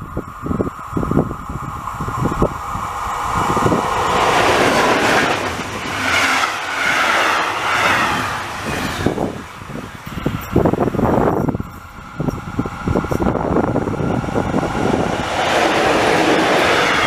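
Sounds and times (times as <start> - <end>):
train passing on rails: 0.0 - 17.0.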